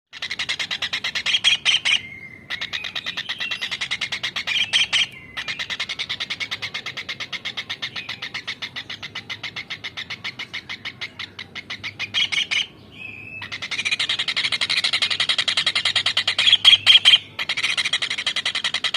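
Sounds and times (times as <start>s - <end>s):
kingfisher chipping call: 0.2s - 18.9s.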